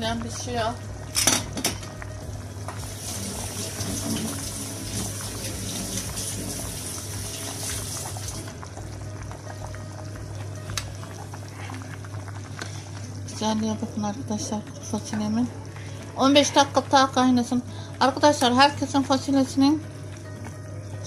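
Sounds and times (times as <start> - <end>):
boiling pot hiss: 0.0 - 21.0
stew bubbling: 1.9 - 21.0.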